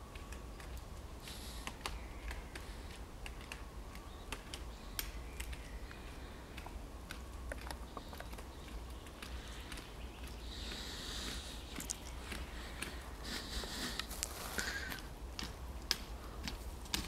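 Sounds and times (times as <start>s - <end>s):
faint birdsong: 0.0s - 17.0s
woodpecker tapping bark: 0.1s - 17.0s.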